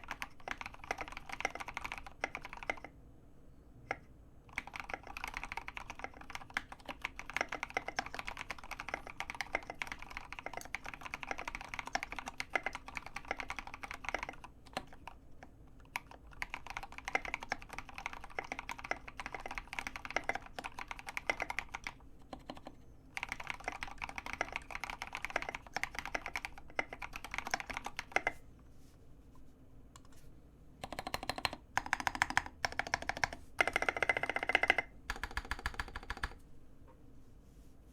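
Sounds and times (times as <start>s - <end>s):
fast mechanical keyboard typing: 0.0s - 2.9s, 4.5s - 28.4s, 30.8s - 36.4s.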